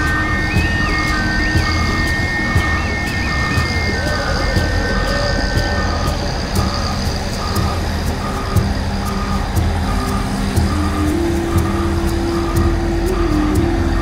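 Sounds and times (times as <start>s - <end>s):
heavy diesel engine running: 0.0s - 14.0s
second steady engine note: 0.0s - 14.0s
warning alarm beeping: 0.0s - 14.0s.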